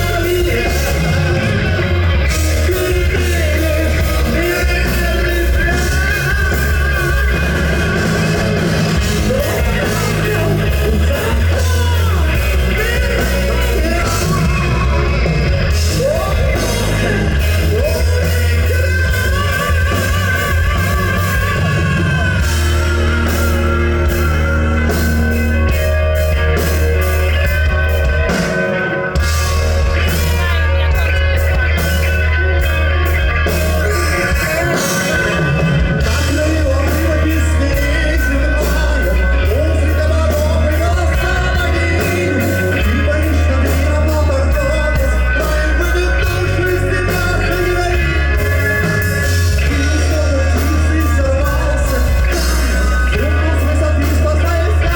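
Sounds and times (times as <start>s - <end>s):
bass guitar: 0.0s - 54.9s
drums: 0.0s - 54.9s
electric guitar: 0.0s - 54.9s
person singing: 0.0s - 54.9s.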